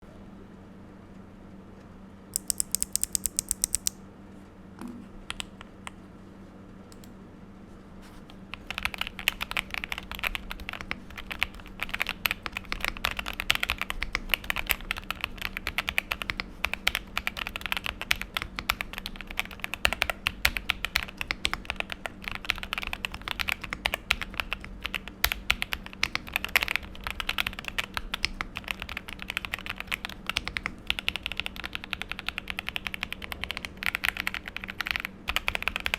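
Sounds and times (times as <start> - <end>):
mechanical keyboard typing: 2.4 - 4.0, 8.5 - 35.9.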